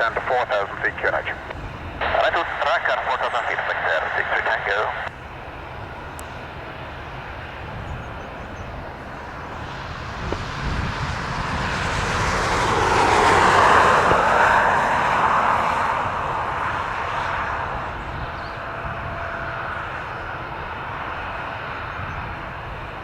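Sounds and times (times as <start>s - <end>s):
airplane engine noise: 0.0s - 23.0s.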